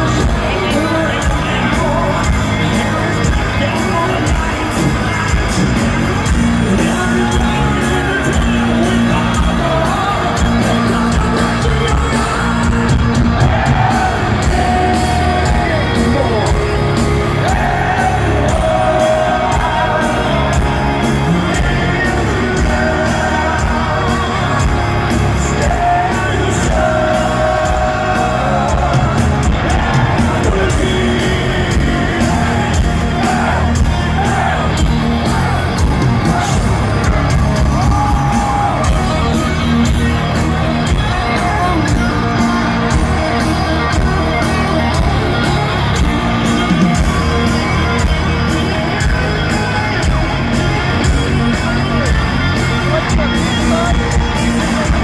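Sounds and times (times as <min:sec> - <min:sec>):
heavy metal band playing live: 0:00.0 - 0:55.0
person singing: 0:00.0 - 0:55.0.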